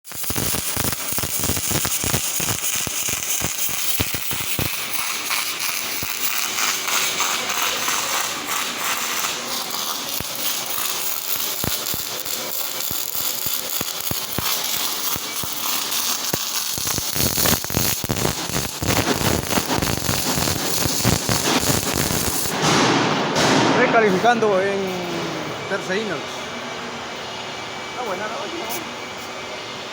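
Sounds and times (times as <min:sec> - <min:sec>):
welding arc crackling: 0:00.0 - 0:26.2.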